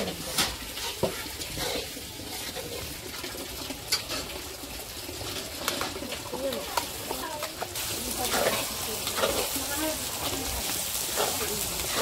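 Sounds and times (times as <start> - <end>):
food sizzling over fire: 0.0 - 12.0.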